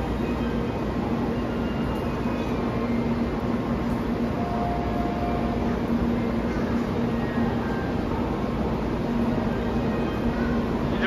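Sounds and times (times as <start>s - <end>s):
train approaching: 0.0s - 11.0s.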